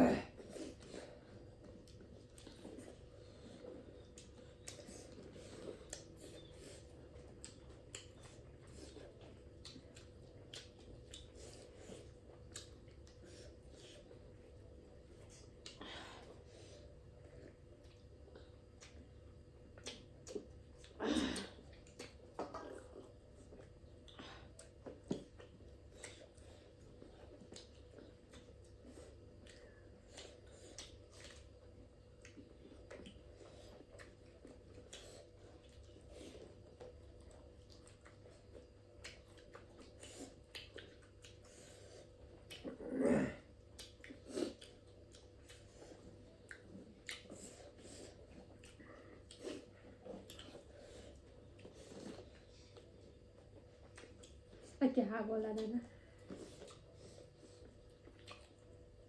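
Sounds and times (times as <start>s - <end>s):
chewing with wet smacks: 0.2s - 59.0s.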